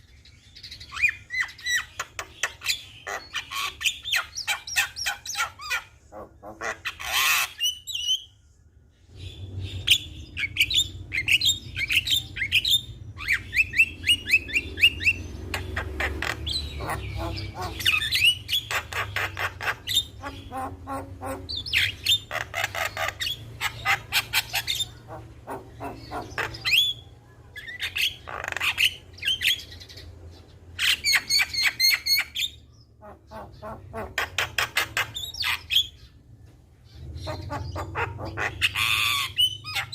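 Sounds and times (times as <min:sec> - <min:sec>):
myna bird calling: 0:00.5 - 0:08.3, 0:09.1 - 0:36.2, 0:36.8 - 0:39.9.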